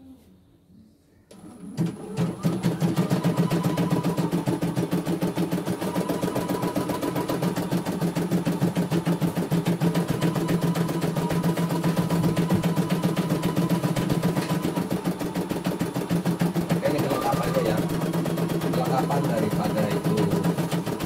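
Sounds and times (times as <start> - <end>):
embroidery machine stitching: 1.3 - 21.0.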